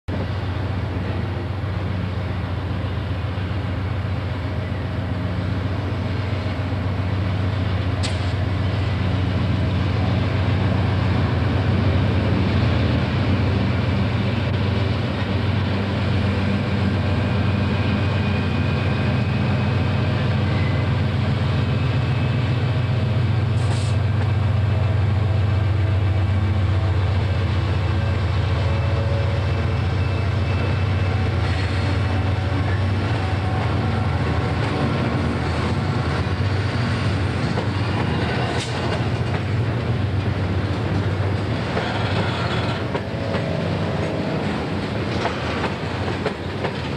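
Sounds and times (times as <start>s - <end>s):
diesel locomotive engine drone: 0.1s - 46.9s.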